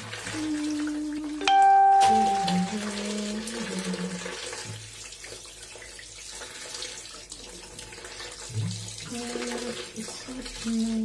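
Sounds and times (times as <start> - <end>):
splashing as fish are rinsed: 0.0 - 11.0
tap water running into basin: 0.0 - 11.0.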